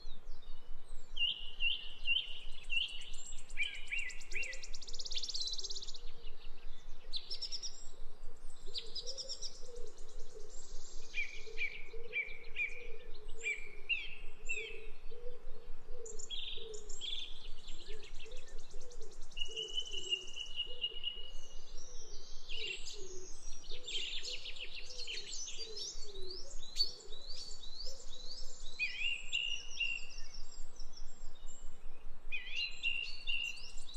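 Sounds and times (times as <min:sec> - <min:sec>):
songbirds chirping and trilling: 0:00.0 - 0:33.9.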